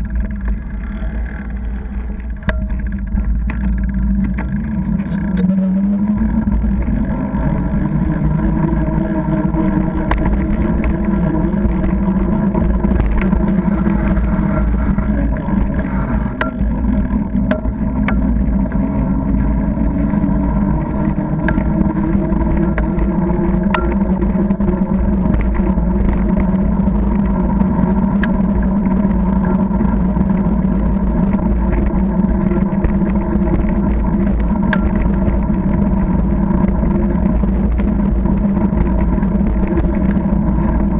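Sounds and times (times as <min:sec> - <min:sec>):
bicycle tyres rolling on wet tarmac: 0:00.0 - 0:40.9
low wind rumble: 0:00.0 - 0:40.9.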